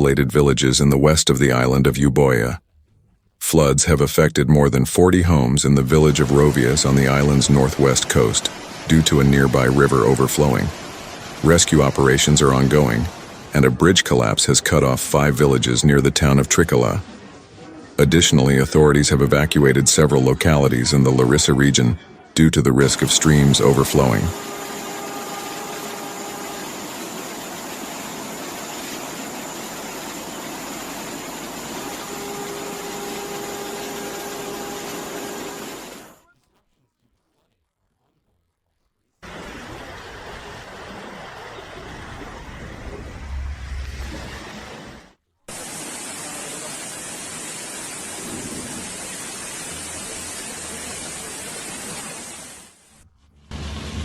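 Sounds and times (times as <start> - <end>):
faint steady hum: 0.0 - 54.0
steady rushing noise: 5.6 - 22.0, 22.6 - 36.2, 39.2 - 54.0.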